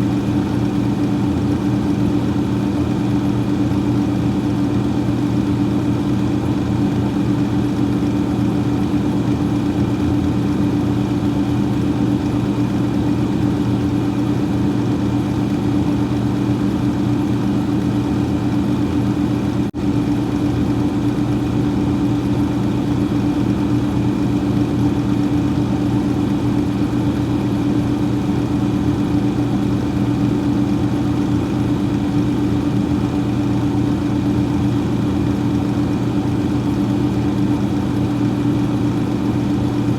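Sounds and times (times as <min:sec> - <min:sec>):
freezer fan humming and whirring: 0:00.0 - 0:39.9.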